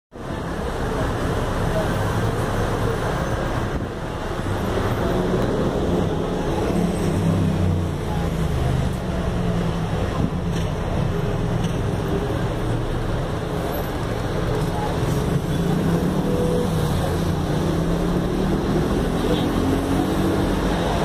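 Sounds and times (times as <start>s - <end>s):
city traffic noise: 0.1s - 21.0s
bus engine hum: 0.2s - 21.0s.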